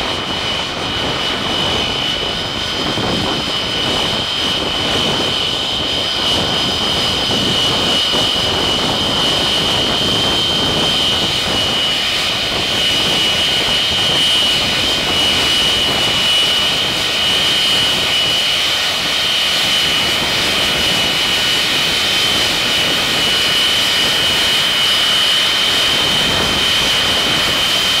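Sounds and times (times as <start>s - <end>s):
jet engines running with whine: 0.0s - 28.0s.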